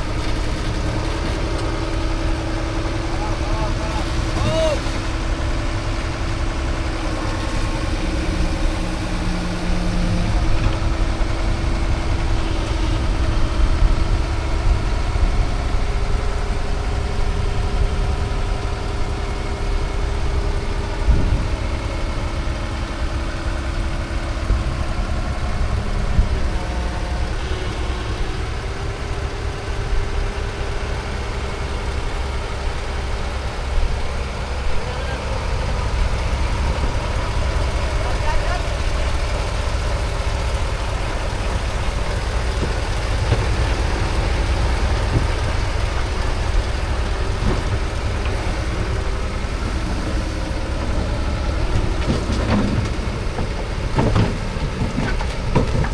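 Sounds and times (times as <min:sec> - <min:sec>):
motor running with low rumble: 0:00.0 - 0:55.9.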